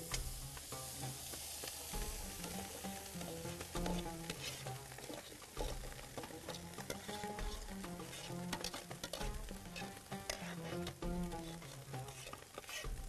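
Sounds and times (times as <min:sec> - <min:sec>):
background music: 0:00.0 - 0:13.0
steady hiss: 0:00.0 - 0:13.0
metal ladle scraping a pot: 0:02.0 - 0:13.0.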